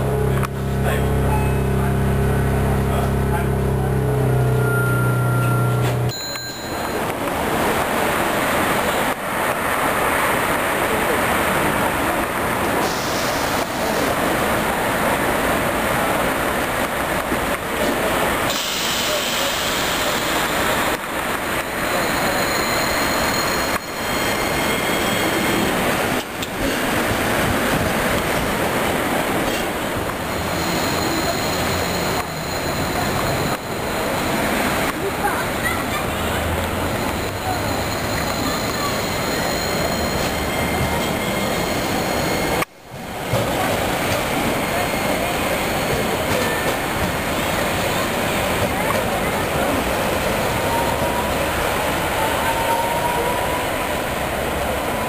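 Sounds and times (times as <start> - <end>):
road traffic rushing: 0.0 - 55.0
tram running noise: 0.0 - 55.0.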